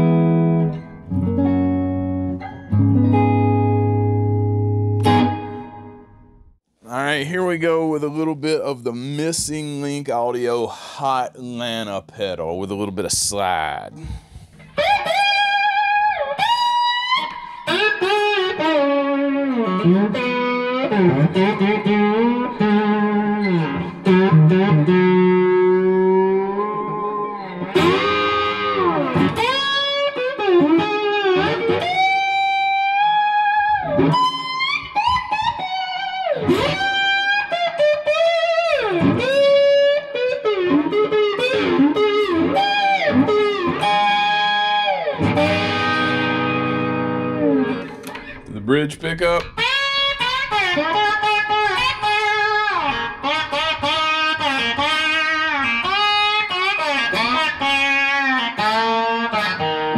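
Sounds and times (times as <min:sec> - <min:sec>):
electric slide guitar: 0:00.0 - 0:06.2, 0:14.0 - 0:48.5, 0:49.4 - 0:59.9.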